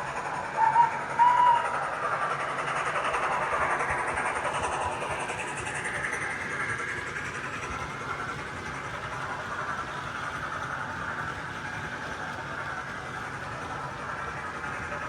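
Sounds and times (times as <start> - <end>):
wheels rumbling on track: 0.0 - 15.0.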